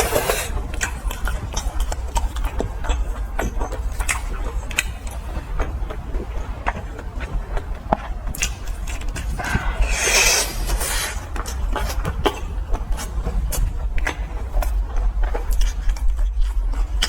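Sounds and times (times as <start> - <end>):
crunchy chewing: 0.0 - 17.0
mouth clicks and smacks: 0.0 - 17.0
steady low hum: 0.0 - 17.0.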